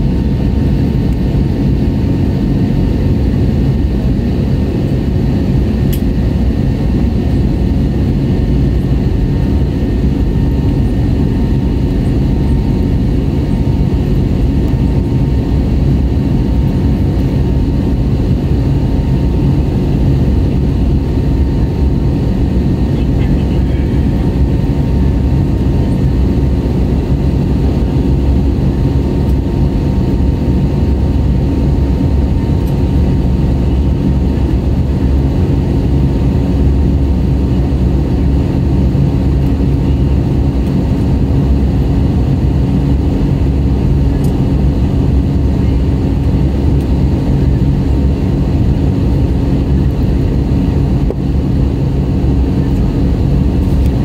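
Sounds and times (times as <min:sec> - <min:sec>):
jet engine drone in cabin: 0:00.0 - 0:54.0
low hum: 0:00.0 - 0:54.0.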